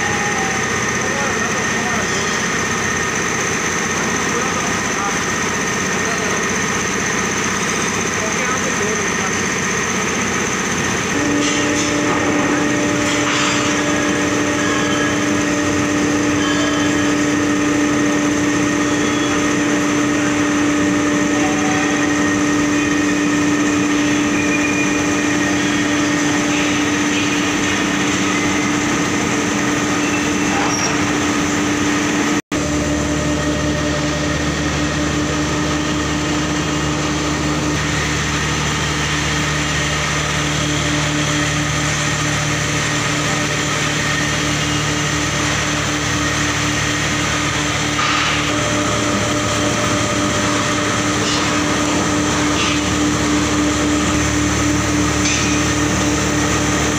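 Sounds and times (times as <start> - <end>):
heavy factory machinery humming: 0.0 - 56.9.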